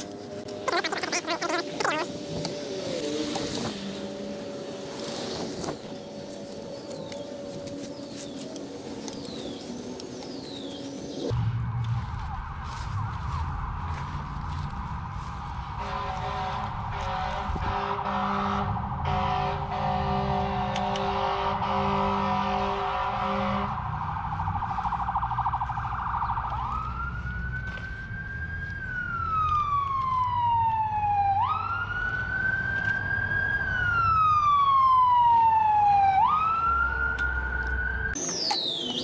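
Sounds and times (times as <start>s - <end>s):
traffic rumble: 0.0s - 39.0s
emergency vehicle siren: 0.1s - 39.0s.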